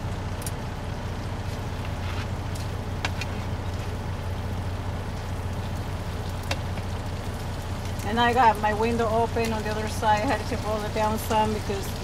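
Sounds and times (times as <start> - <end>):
low drone in truck cab: 0.0 - 11.9
sausage sizzling in a frying pan: 0.7 - 12.0.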